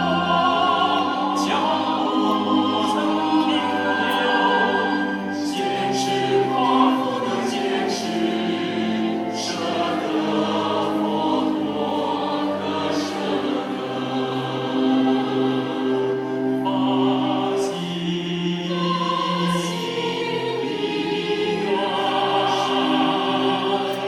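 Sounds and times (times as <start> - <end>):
accompanying music: 0.0 - 24.0
choir singing: 0.0 - 24.0.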